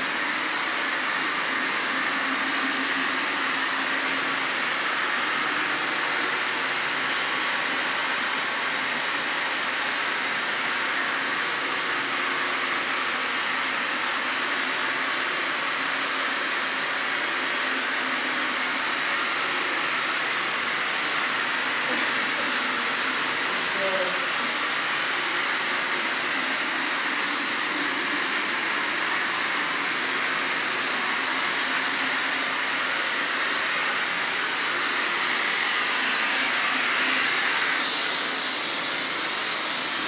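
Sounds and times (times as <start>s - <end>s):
floor scrubber running: 0.0s - 40.0s.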